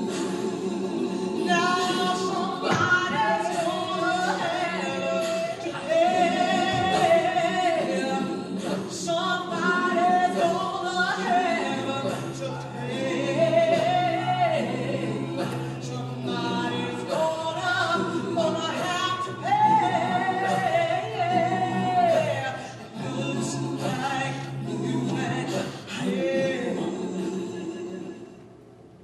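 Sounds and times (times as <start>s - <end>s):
voices singing with vibrato: 0.0s - 28.8s.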